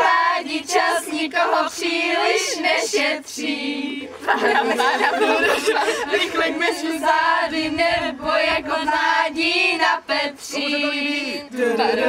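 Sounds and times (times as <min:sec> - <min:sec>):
girls singing in unison: 0:00.0 - 0:12.0.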